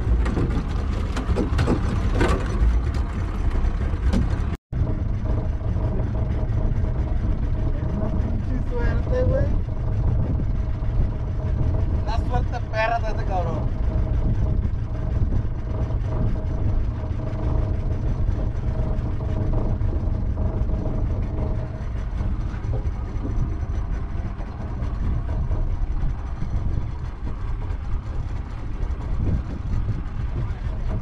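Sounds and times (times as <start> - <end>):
boat engine idling: 0.0 - 31.0.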